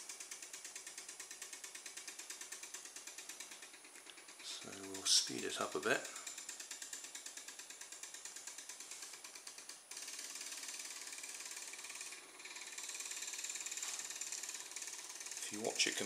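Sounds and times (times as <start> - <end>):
stepper motor ticking: 0.0 - 16.0.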